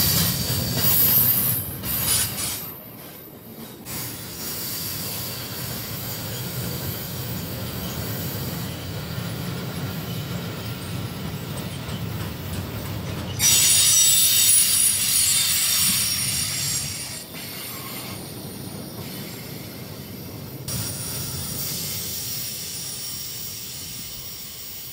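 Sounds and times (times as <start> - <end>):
train wheels rumbling on rail: 0.0 - 24.9.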